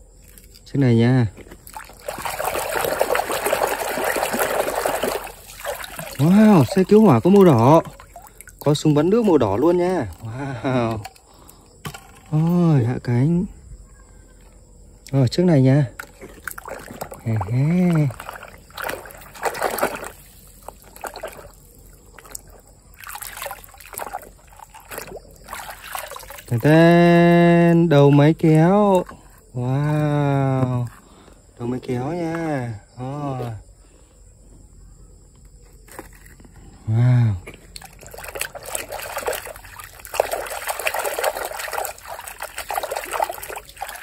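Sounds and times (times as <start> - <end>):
muddy water sloshing in basin: 0.0 - 12.5, 15.1 - 33.6, 37.3 - 44.0.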